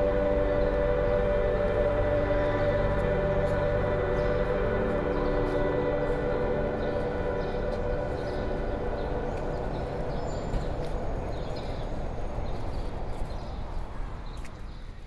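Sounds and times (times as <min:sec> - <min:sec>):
held music chord: 0:00.0 - 0:13.2
street and traffic noise: 0:00.0 - 0:15.0.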